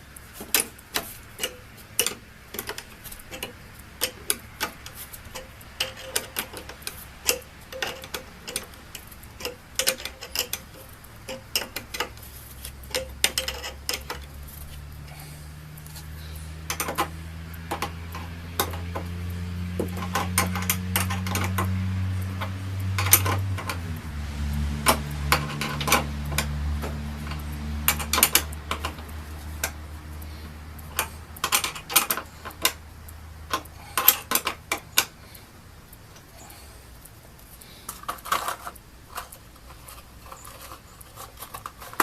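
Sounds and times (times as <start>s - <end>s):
steady low hum: 0.0s - 42.0s
metallic clicks of tightening nuts: 0.4s - 42.0s.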